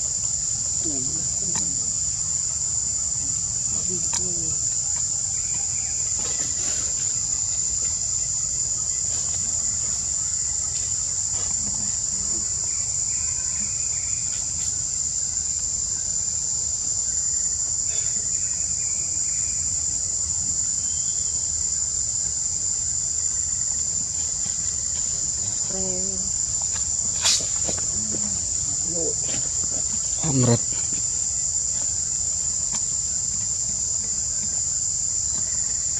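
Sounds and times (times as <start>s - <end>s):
insects chorus: 0.0s - 35.9s.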